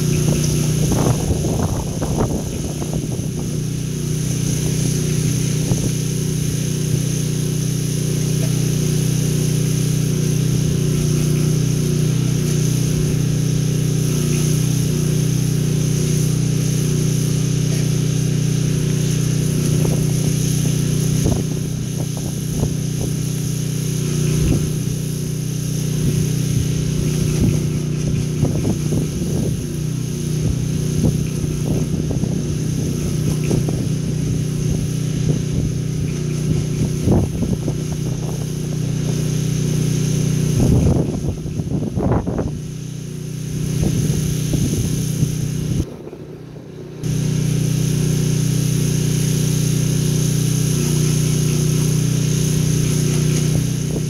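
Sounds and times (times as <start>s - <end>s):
water spray hissing: 0.0s - 45.9s, 47.0s - 54.0s
pressure washer engine droning: 0.0s - 54.0s.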